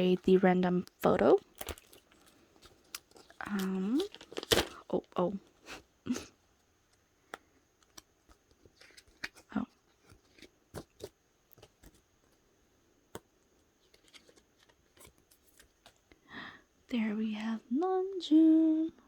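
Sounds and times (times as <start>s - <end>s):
photocards and plastic packaging handled: 0.0s - 5.8s, 6.6s - 16.2s.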